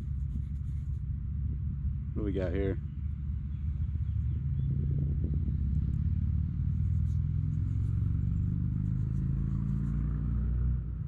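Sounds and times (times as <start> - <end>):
low engine-like rumble: 0.0 - 11.0.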